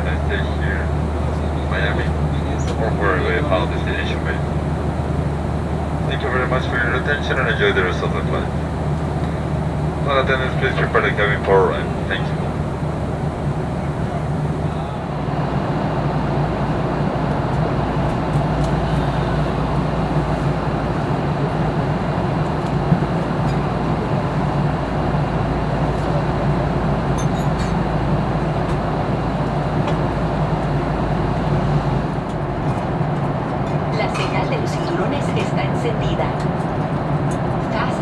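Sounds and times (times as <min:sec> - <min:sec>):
rushing airflow: 0:00.0 - 0:32.3
low engine hum: 0:00.0 - 0:34.2.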